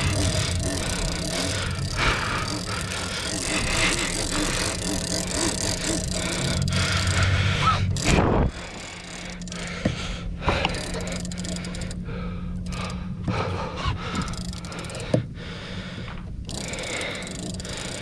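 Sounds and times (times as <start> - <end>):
boat engine humming: 0.0 - 18.0
fishing reel knocks and clicks: 0.0 - 18.0.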